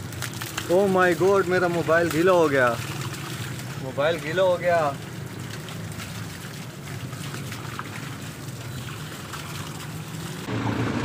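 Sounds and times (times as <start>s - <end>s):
water splashing from hose: 0.0s - 11.0s.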